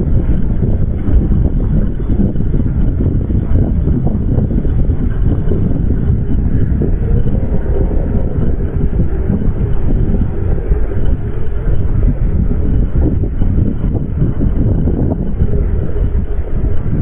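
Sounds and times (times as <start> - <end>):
loud low rumbling: 0.0 - 17.0.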